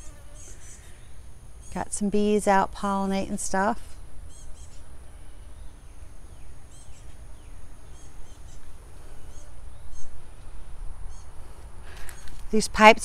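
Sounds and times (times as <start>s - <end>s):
birds chirping: 0.0s - 2.5s, 3.2s - 12.6s.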